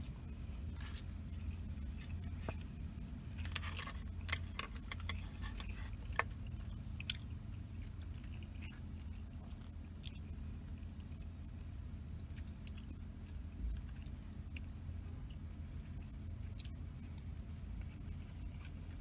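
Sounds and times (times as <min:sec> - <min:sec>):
person chewing food: 0:00.0 - 0:19.0
steady low hum: 0:00.0 - 0:19.0.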